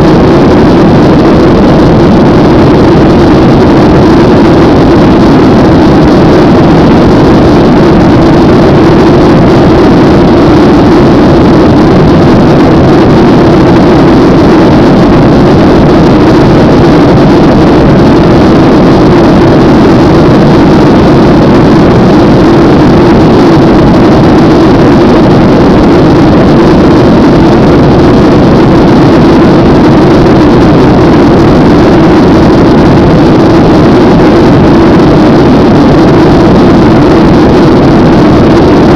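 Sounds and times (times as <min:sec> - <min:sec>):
jet engines and airflow rushing: 0:00.0 - 0:38.9
low hum: 0:00.0 - 0:38.9.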